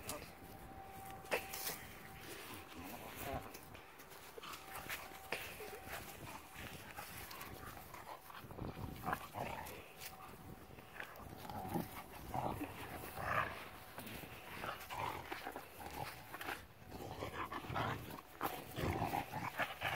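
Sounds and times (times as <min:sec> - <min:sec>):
dog play noises: 0:00.0 - 0:19.9.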